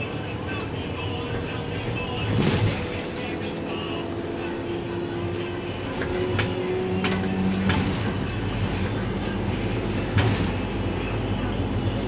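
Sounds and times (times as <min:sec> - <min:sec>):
minibus engine and road noise: 0:00.0 - 0:12.0.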